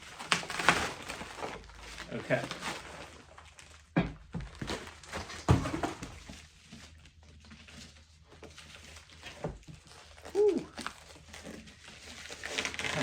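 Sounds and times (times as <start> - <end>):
packing material rustling: 0.0 - 13.0.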